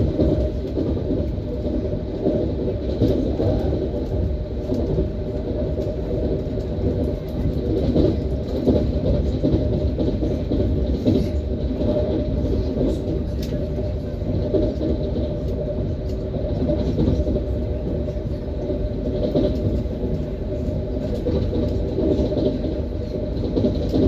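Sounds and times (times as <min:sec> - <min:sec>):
train wheels rumbling on rail: 0:00.0 - 0:24.0
wheels knocking and clicking: 0:00.0 - 0:24.0.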